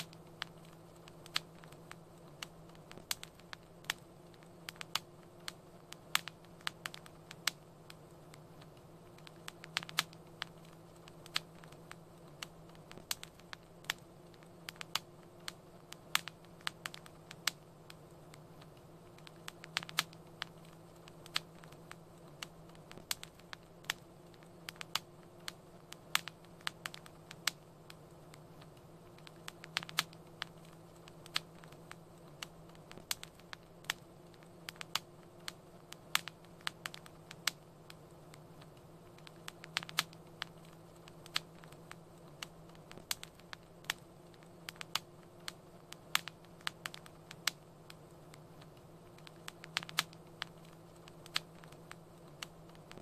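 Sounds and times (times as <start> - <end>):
faint low hum: 0.0 - 53.0
soft steady hiss: 0.0 - 53.0
wood fire crackling: 0.0 - 53.0.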